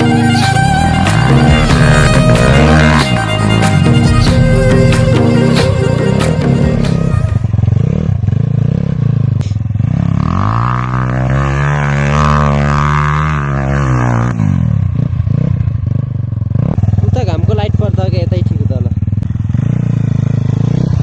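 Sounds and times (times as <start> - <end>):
engine revving: 0.0 - 17.0, 18.7 - 21.0.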